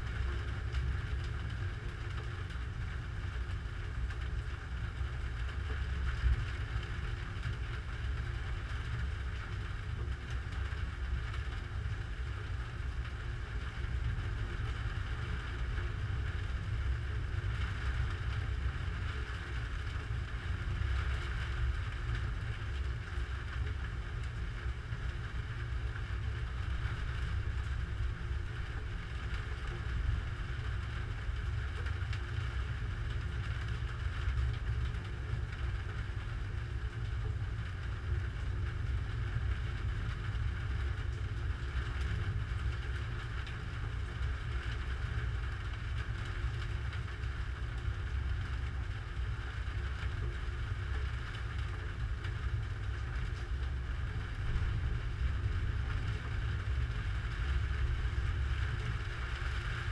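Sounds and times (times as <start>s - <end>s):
low rumble of storm wind: 0.0s - 59.9s.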